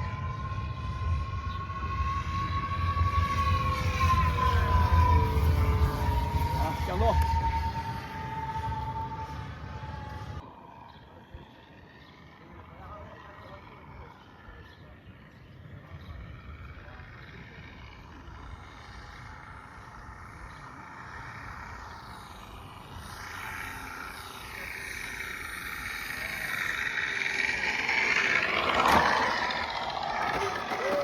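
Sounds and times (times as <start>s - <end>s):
model plane simulated engine: 0.0s - 31.0s.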